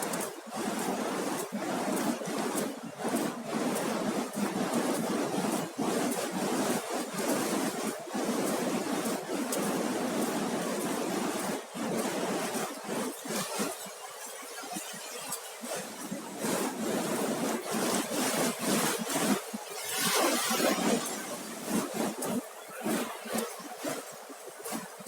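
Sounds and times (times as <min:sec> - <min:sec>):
surf washing up beach: 0:00.0 - 0:13.8, 0:14.5 - 0:25.0.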